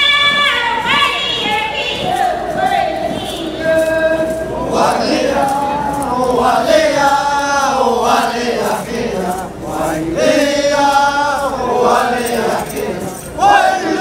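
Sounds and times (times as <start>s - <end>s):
group of voices chanting: 0.8s - 14.0s.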